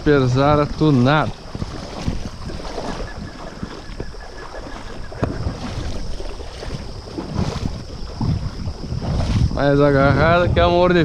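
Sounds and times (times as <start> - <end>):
fish thrashing in water: 0.0 - 9.6
wind rumble on microphone: 0.0 - 11.0.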